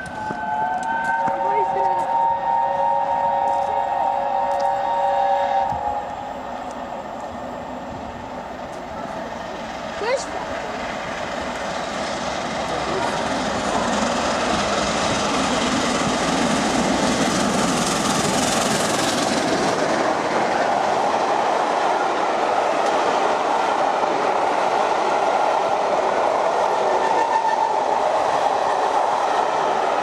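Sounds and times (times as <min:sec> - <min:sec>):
steam locomotive passing: 0:00.0 - 0:30.0
train coaches rolling past: 0:00.0 - 0:30.0.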